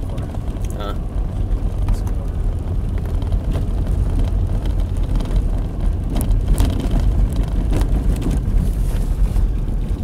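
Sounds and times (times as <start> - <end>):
engine and tyre rumble: 0.0 - 10.0.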